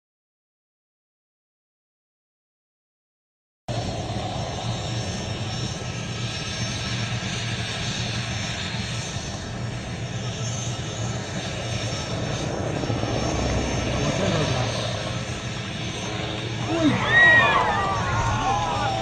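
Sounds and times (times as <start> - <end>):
helicopter engine and rotor: 3.7 - 19.0.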